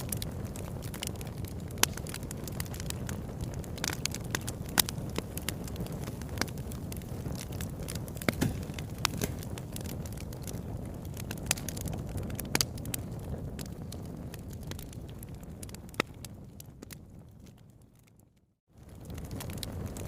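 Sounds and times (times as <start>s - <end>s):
fireplace fire crackling: 0.0s - 20.0s
low rumble of flames: 0.0s - 20.0s.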